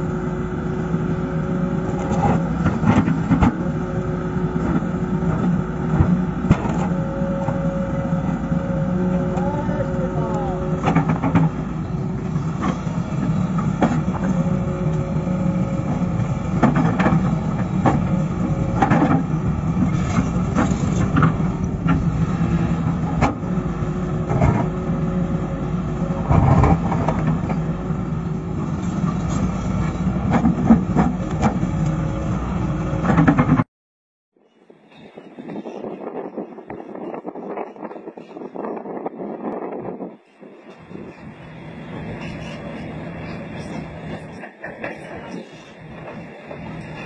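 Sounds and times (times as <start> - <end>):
excavator diesel engine running: 0.0 - 33.6, 40.1 - 47.0.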